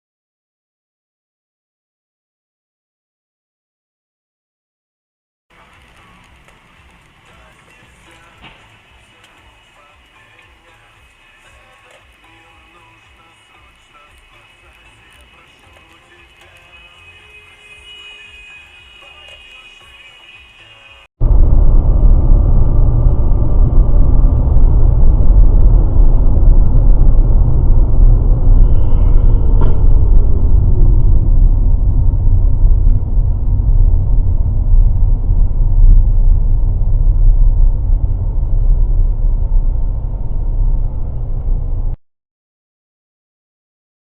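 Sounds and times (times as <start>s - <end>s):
road and engine rumble: 5.5s - 42.0s.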